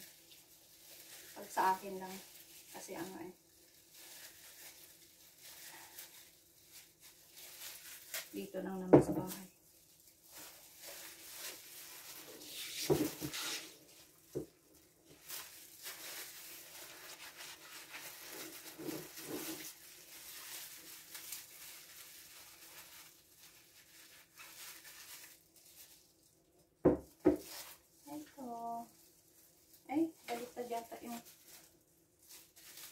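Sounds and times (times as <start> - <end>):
faint rustling of gloved hands: 0.0 - 32.9.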